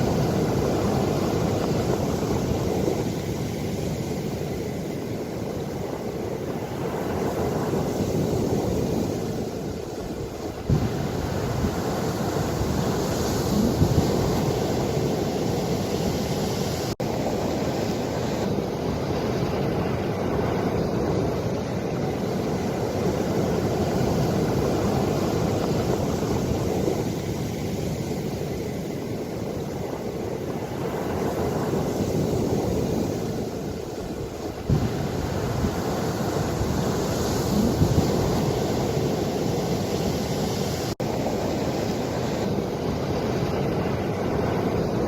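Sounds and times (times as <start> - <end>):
ocean waves washing: 0.0 - 45.0
wind rumbling on microphone: 0.0 - 45.0.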